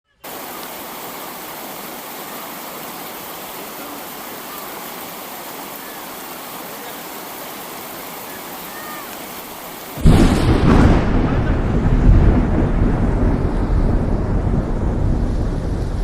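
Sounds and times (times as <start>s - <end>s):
flood water rushing: 0.2s - 14.0s.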